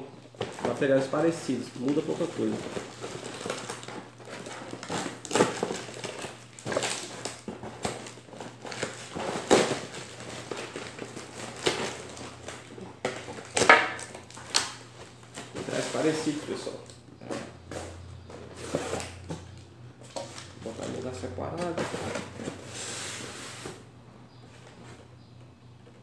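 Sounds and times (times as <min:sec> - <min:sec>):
packaging rustling and crinkling: 0:00.2 - 0:23.8.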